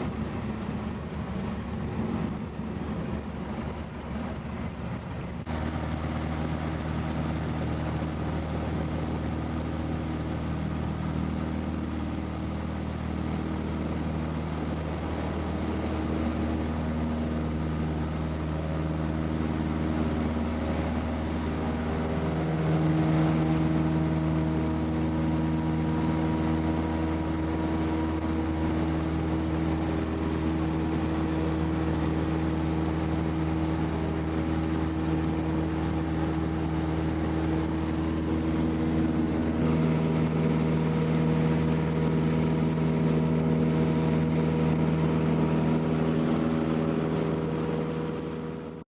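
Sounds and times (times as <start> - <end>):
light aircraft engine and propeller: 0.0 - 48.9.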